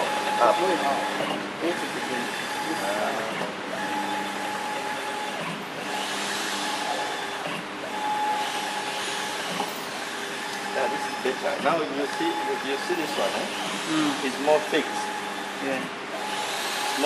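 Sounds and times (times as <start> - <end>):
motor whine: 0.0 - 17.0
printer carriage whirring: 0.0 - 17.0.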